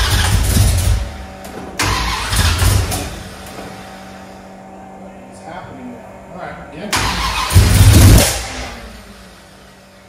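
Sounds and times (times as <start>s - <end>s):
engine firing up and running: 0.0s - 5.4s, 6.8s - 10.0s.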